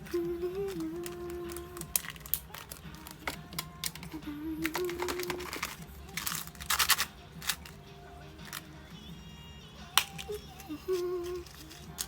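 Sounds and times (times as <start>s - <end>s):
packing material crinkling: 0.0s - 7.8s, 10.0s - 12.0s.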